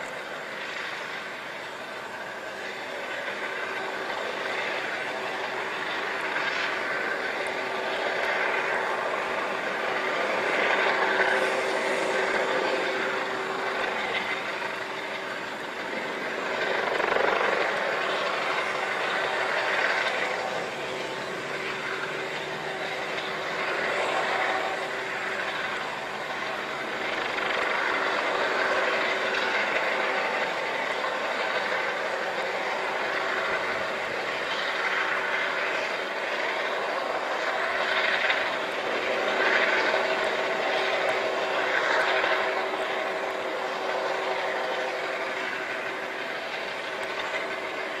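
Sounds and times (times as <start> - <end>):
wind: 0.0 - 48.0.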